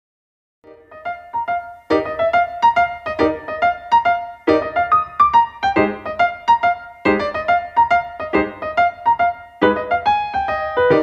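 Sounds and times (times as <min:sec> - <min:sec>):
piano melody: 0:00.6 - 0:11.0.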